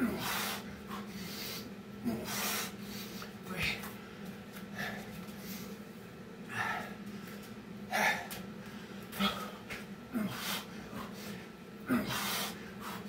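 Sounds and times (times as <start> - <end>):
man breathing hard and gasping: 0.0 - 3.9, 4.7 - 5.8, 6.5 - 7.3, 7.9 - 13.0
faint low hum: 0.0 - 13.0.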